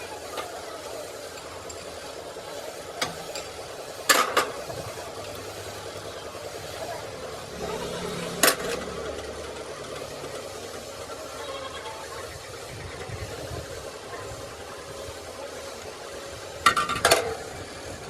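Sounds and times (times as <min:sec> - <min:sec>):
steady engine drone: 0:00.0 - 0:18.0.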